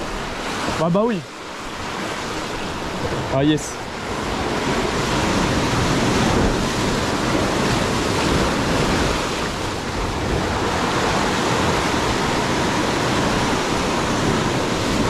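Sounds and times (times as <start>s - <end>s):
sea surf washing over rocks: 0.0s - 15.0s.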